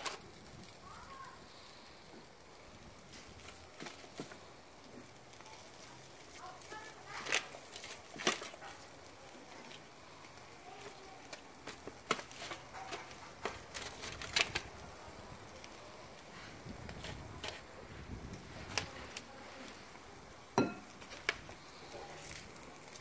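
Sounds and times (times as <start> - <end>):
meat sizzling on grill: 0.0 - 23.0
sharp pops and crackles: 0.0 - 23.0.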